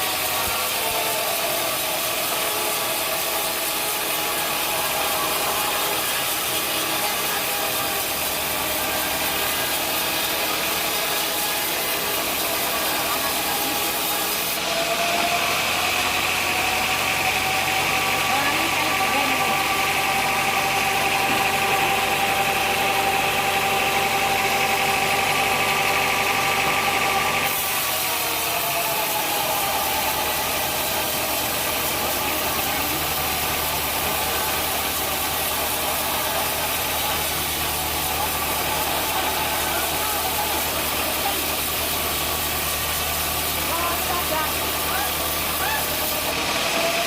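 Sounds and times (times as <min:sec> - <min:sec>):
sawmill machinery humming: 0:00.0 - 0:47.0.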